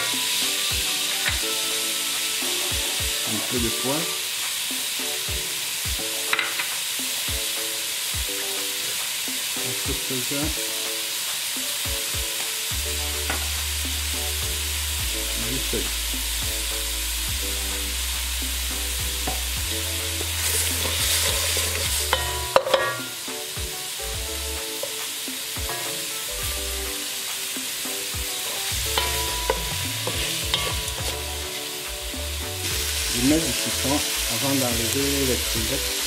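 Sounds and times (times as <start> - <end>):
shrimp sizzling in oil: 0.0 - 36.0.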